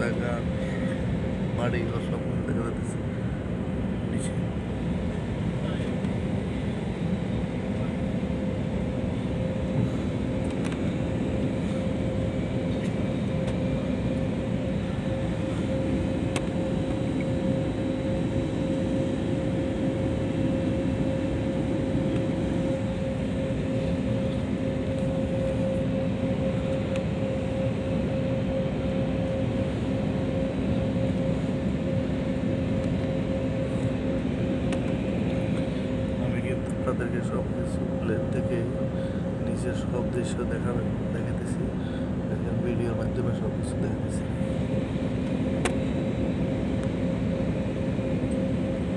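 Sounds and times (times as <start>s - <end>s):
jet engine hum: 0.0s - 48.9s.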